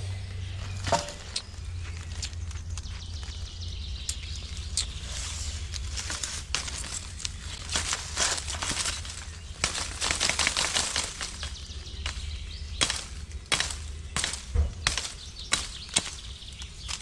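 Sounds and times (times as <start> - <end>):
low rumble: 0.0 - 15.5
branches rustling and swishing: 0.1 - 17.0
twigs snapping: 0.5 - 17.0.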